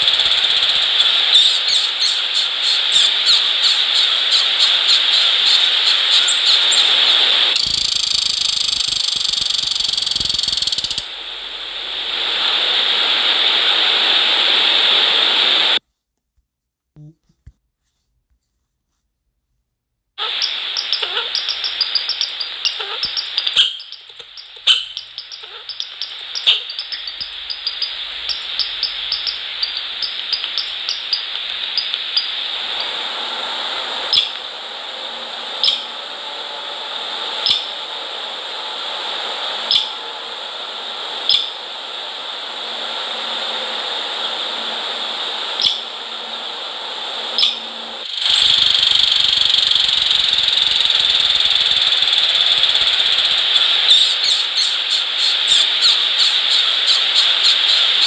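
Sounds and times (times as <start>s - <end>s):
steady hiss: 0.0s - 15.8s, 20.2s - 58.0s.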